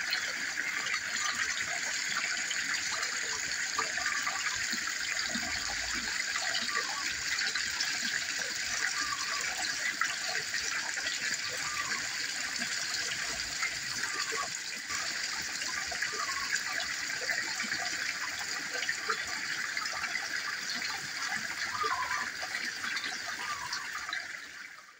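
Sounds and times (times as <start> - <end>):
water spilling over rocks: 0.0 - 24.9.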